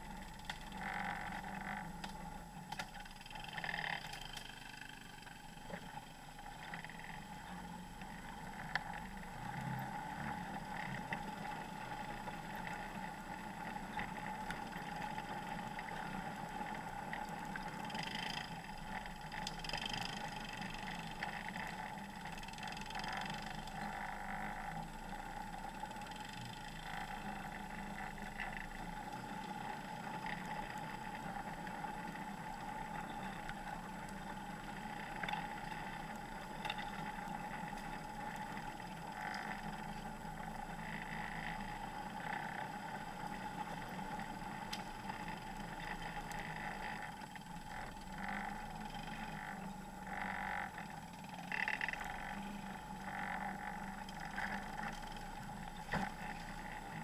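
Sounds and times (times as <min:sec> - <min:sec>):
off-road vehicle engine: 0:00.0 - 0:57.0
steady whine: 0:00.0 - 0:57.0.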